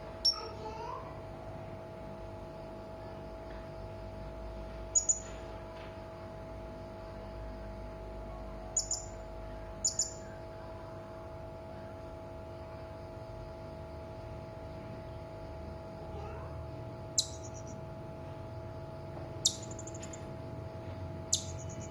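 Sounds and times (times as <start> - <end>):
faint hum: 0.0 - 21.9.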